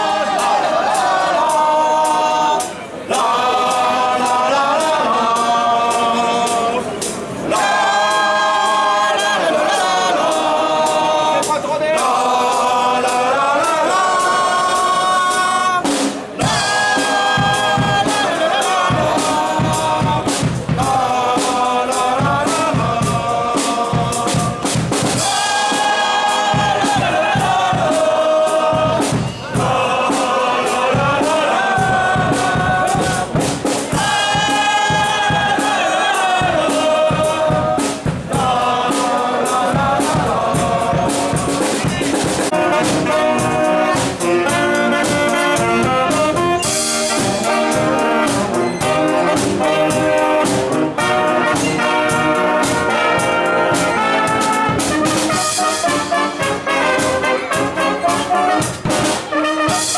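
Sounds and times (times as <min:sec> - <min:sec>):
people singing in chorus: 0:00.0 - 0:59.9
steady drum beat: 0:00.0 - 0:59.9.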